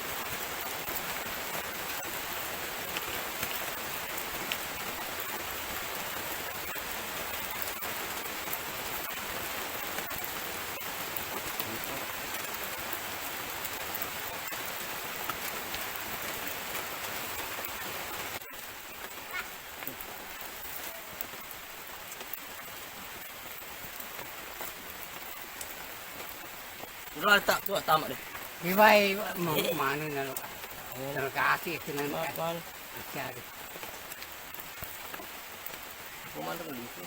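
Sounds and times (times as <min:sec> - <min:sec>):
light rain falling: 0:00.0 - 0:37.0.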